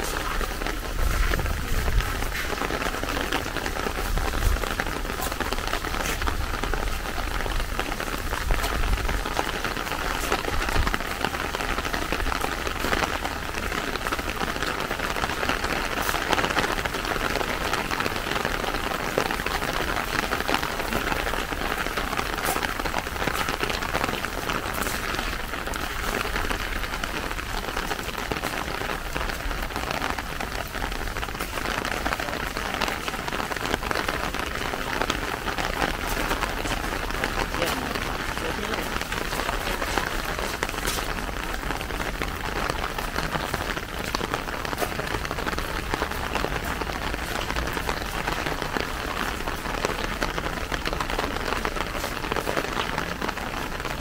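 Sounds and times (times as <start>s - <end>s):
raindrops ticking close by: 0.0s - 54.0s
steady rain hiss: 0.0s - 54.0s.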